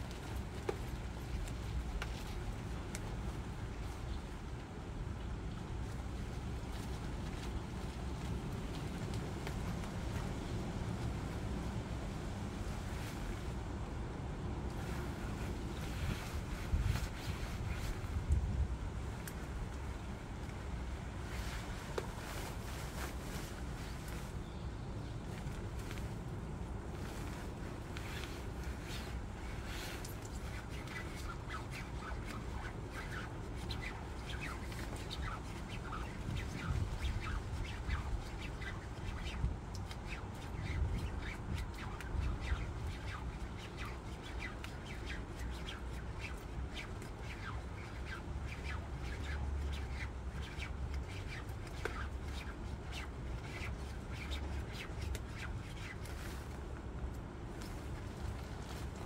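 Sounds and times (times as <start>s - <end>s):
nylon jacket crinkling and squeaking: 5.8s - 11.4s, 14.7s - 18.2s, 19.1s - 59.0s.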